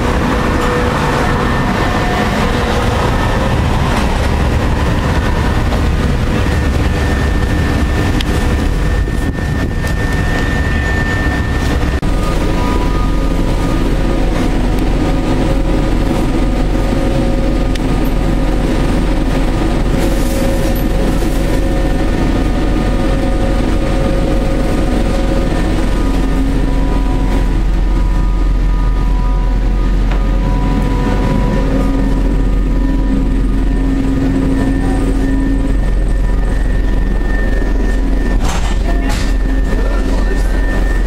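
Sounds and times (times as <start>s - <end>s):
steady hum tones: 0.0s - 41.0s
tram wheels rumbling: 0.0s - 41.0s.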